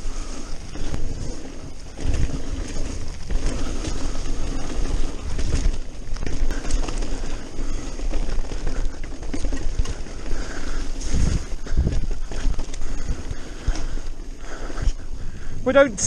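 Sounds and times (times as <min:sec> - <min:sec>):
tyres crunching over dirt: 0:00.0 - 0:14.7
bike rattling over bumps: 0:00.0 - 0:16.0
wind buffeting microphone: 0:00.0 - 0:16.0.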